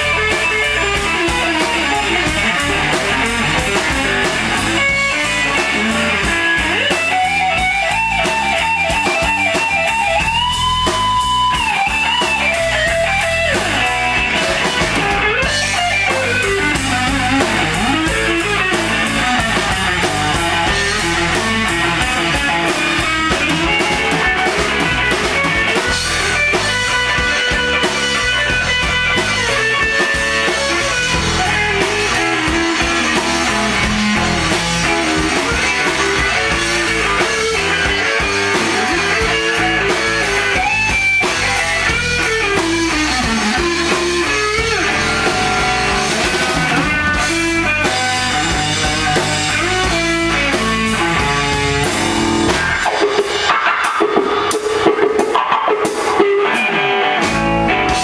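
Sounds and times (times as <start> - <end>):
bass guitar: 0.0 - 58.0
drum kit: 0.0 - 58.0
lead electric guitar: 0.0 - 58.0.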